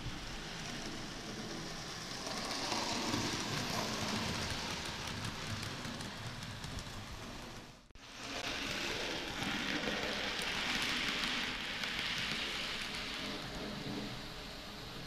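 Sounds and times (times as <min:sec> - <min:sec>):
model train wheels rattling on rails: 0:00.0 - 0:14.2.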